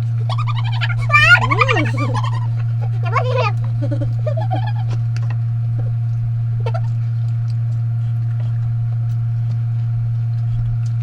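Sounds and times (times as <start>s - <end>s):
eating sounds: 0.0s - 11.0s
steady low hum: 0.0s - 11.0s.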